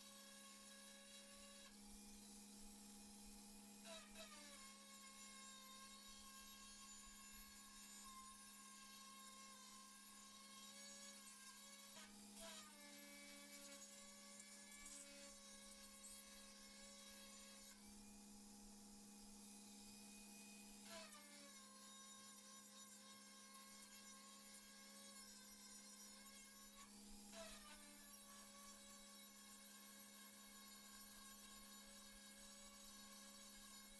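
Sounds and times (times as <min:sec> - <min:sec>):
faint whine of angle grinder on steel: 0:00.0 - 0:33.9.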